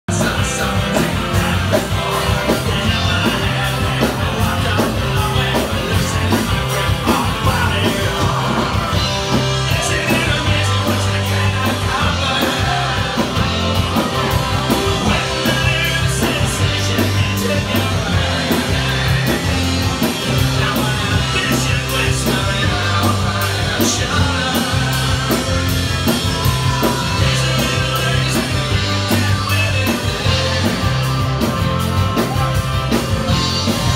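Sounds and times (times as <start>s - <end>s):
rock music with singing: 0.0s - 33.9s.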